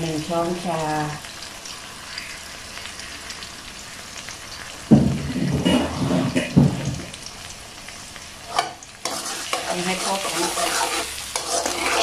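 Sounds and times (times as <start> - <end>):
paste sizzling in a wok: 0.0 - 12.0.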